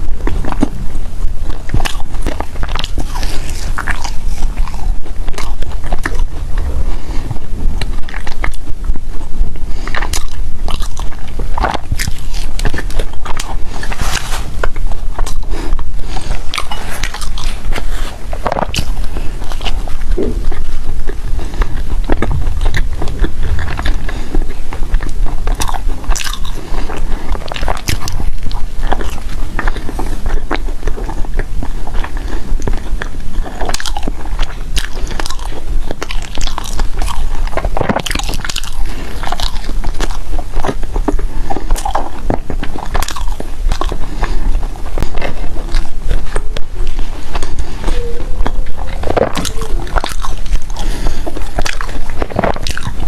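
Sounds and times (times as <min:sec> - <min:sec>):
chewing and biting food: 0:00.0 - 0:53.0.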